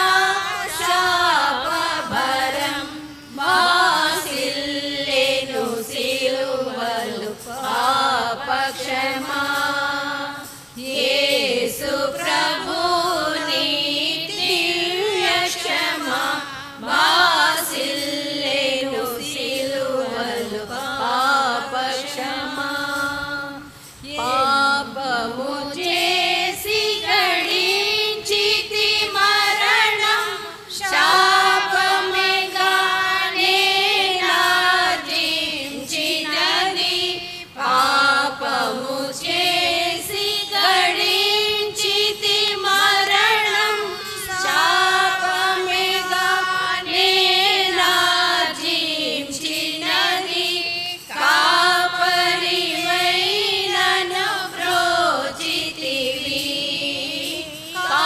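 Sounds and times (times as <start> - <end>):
women singing a hymn: 0.0 - 58.0.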